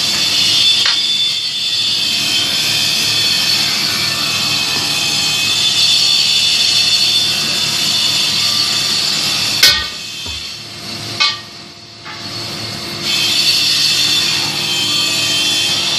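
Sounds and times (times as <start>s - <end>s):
pipe-bending machine whine: 0.0s - 15.9s.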